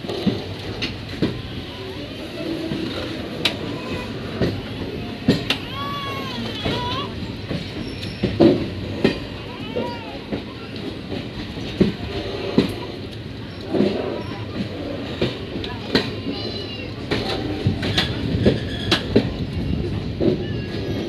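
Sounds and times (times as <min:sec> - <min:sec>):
train wheels rumbling: 0:00.0 - 0:21.0
wheels clunking over rail joints: 0:00.0 - 0:21.0.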